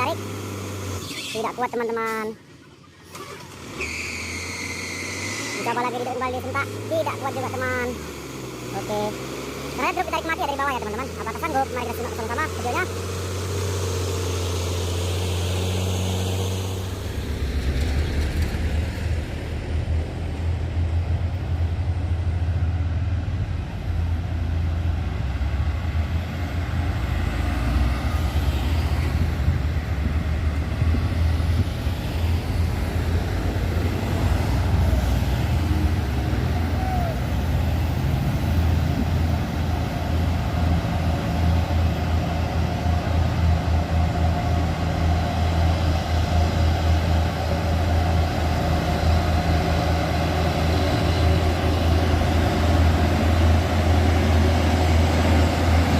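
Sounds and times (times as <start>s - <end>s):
heavy truck diesel engine under load: 0.0s - 55.9s.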